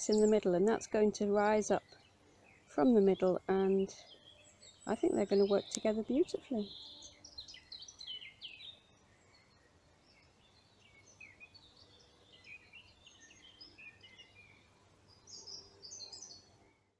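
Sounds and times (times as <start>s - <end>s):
low background hiss: 0.0s - 16.9s
small birds chirping: 0.0s - 16.9s.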